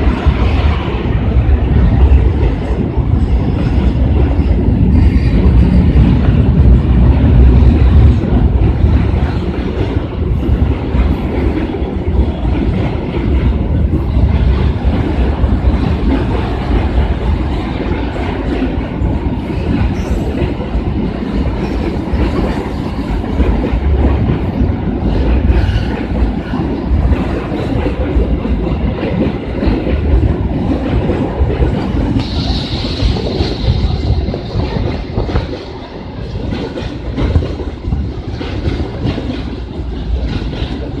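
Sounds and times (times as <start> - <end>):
train wheels rumbling and clacking: 0.0 - 41.0.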